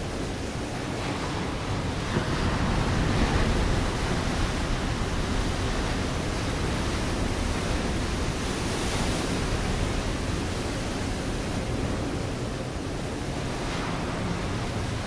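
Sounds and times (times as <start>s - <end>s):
waves breaking on rocky shore: 0.0s - 15.0s.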